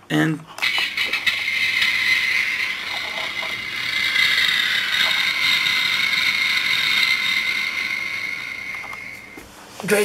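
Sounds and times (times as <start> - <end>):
toy fire truck siren: 0.6 - 9.2.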